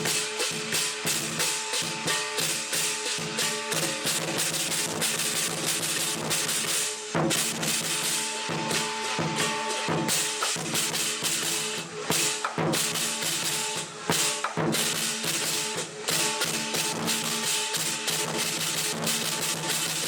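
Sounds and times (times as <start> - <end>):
cymbal crashes: 0.0 - 20.0
drum beaten rapidly: 0.0 - 20.0.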